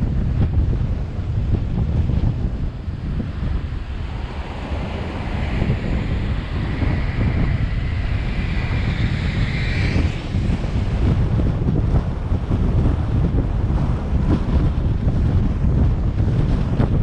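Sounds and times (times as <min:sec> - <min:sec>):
faint whine: 0:00.0 - 0:15.0
wind buffeting microphone: 0:00.0 - 0:17.0.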